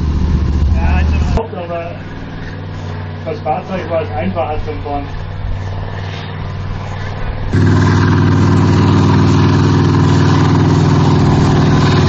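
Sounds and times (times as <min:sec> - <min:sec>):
tracked vehicle driving through mud: 0:00.0 - 0:04.6, 0:05.2 - 0:12.0
diesel engine running: 0:00.0 - 0:12.0.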